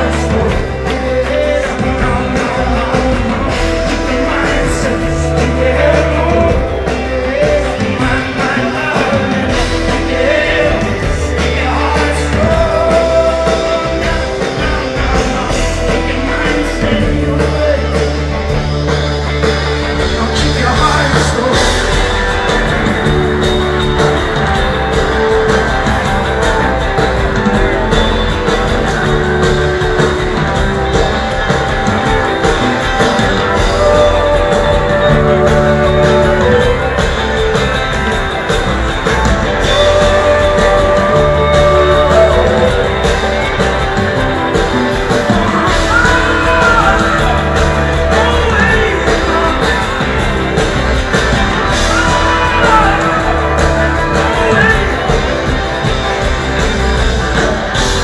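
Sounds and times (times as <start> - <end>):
person singing: 0.0 - 18.6, 20.0 - 58.0
live band playing: 0.0 - 58.0.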